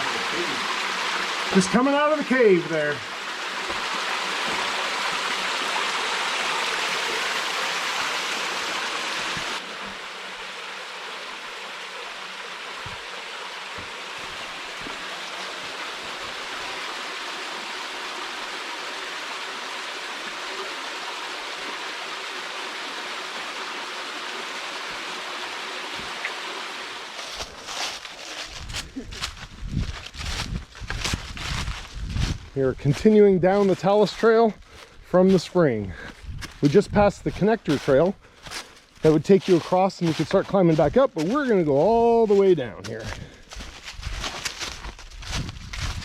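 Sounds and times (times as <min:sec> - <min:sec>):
spring water running: 0:00.0 - 0:32.4, 0:36.0 - 0:46.0.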